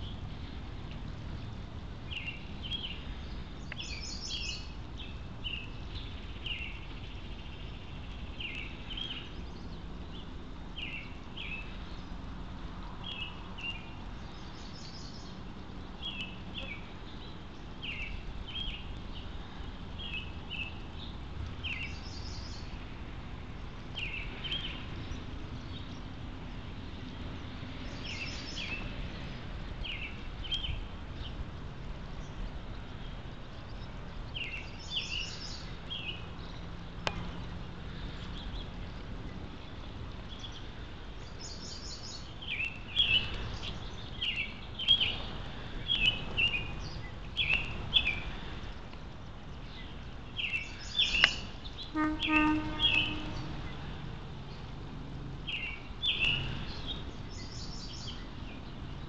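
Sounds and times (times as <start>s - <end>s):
low background rumble: 0.0s - 59.0s
songbirds chirping: 0.0s - 59.0s.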